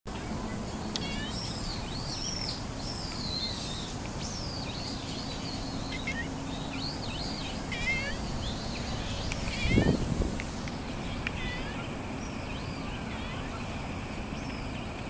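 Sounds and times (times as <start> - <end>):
outdoor background noise: 0.1 - 15.0
small birds singing: 0.1 - 15.0.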